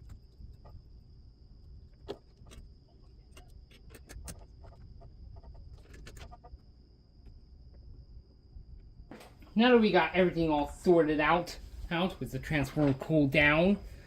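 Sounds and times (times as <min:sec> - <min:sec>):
faint high-pitched hum: 0:00.0 - 0:14.0.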